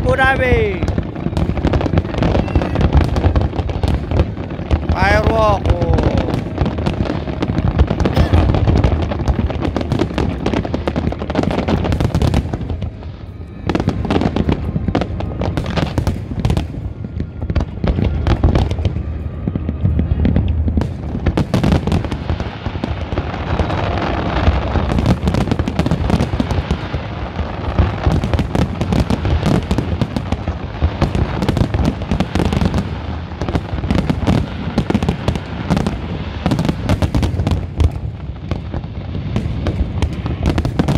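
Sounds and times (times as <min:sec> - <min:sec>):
fireworks bursting and crackling: 0:00.0 - 0:40.9.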